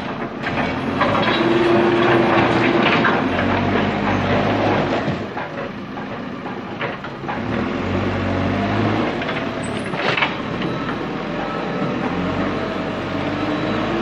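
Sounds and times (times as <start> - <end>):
diesel engine under load: 0.0 - 14.0.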